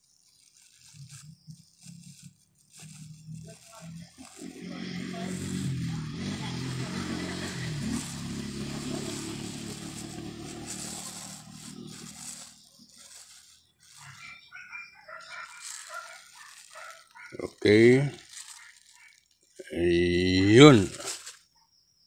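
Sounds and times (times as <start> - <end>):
plastic bag crinkling: 0.0 - 21.5.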